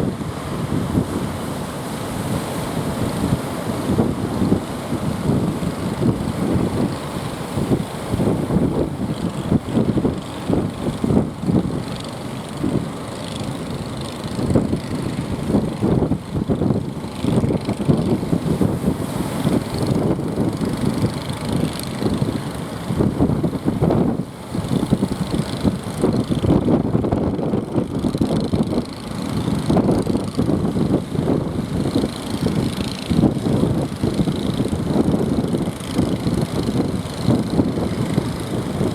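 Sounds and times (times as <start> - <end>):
boat engine running: 0.0 - 38.9
wind buffeting microphone: 0.0 - 38.9.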